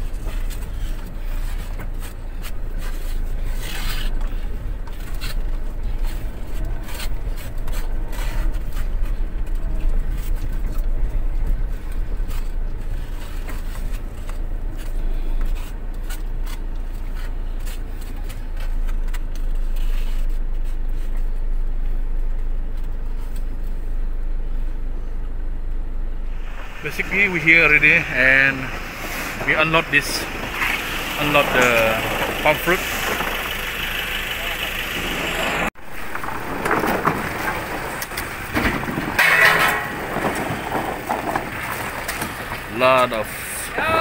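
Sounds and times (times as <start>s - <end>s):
scraping and knocking: 0.0s - 21.4s, 26.3s - 33.9s, 34.9s - 43.2s
vehicle engine running: 0.0s - 44.0s.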